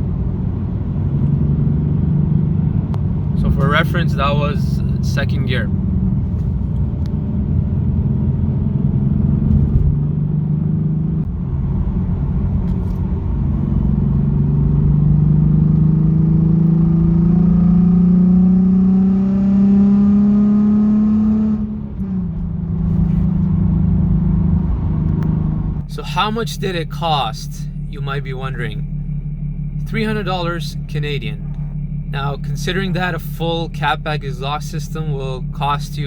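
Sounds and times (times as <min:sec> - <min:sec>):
car exhaust under way: 0:00.0 - 0:36.0.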